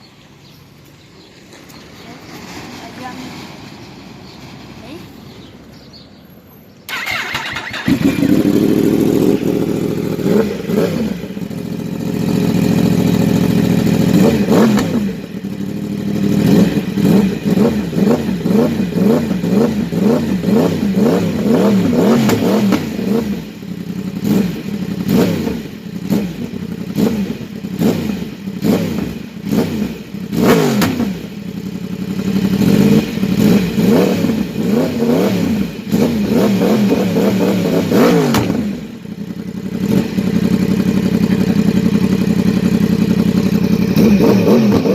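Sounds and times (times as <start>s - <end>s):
motorcycle engine revving: 6.8s - 44.9s.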